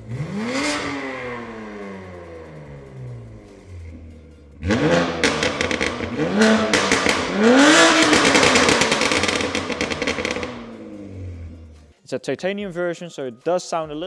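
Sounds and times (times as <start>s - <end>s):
car exhaust revving: 0.0s - 11.8s
exhaust crackles: 0.0s - 11.8s.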